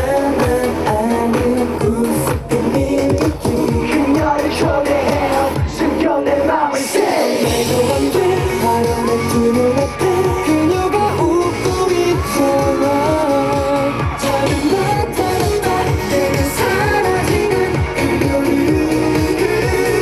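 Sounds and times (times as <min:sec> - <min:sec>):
driving drum beat: 0:00.0 - 0:06.0, 0:07.4 - 0:20.0
pop dance track with singing: 0:00.0 - 0:20.0.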